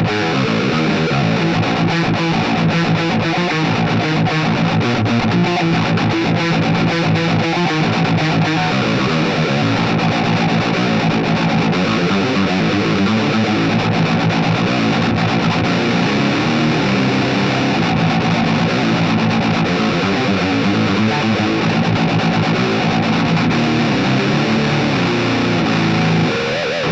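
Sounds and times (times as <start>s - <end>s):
distorted electric guitar: 0.0s - 26.9s.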